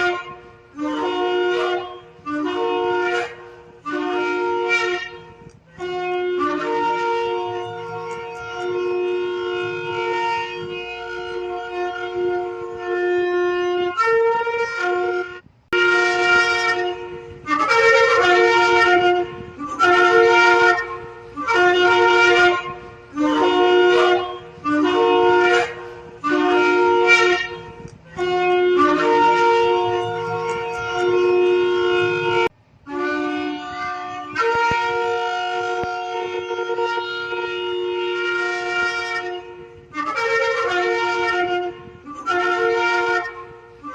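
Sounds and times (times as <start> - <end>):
shofar blowing: 0.0 - 43.9.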